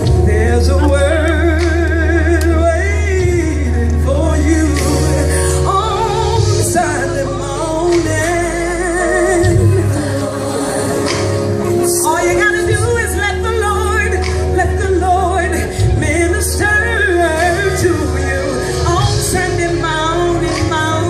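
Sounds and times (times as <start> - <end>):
gospel voices singing: 0.0 - 21.0
sustained bass line: 0.0 - 21.0.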